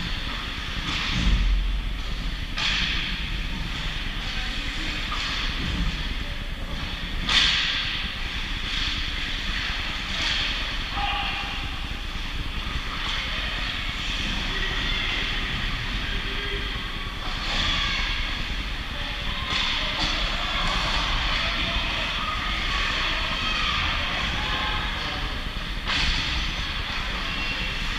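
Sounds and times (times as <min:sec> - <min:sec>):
faint voices: 0:02.2 - 0:27.9.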